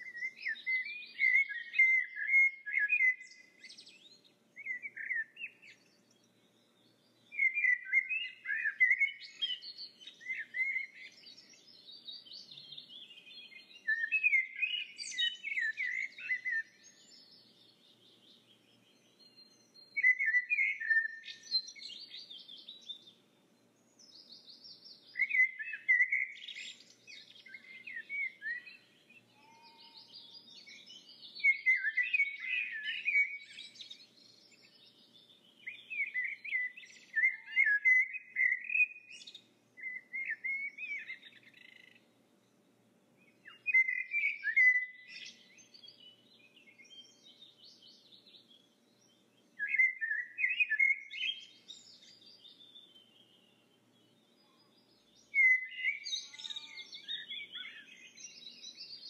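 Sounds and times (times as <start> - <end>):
birds twittering: 0.0 - 23.2, 23.8 - 59.0.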